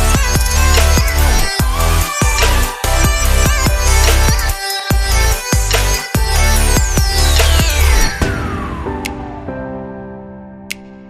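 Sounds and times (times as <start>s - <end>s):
electronic music with heavy bass: 0.0s - 9.9s.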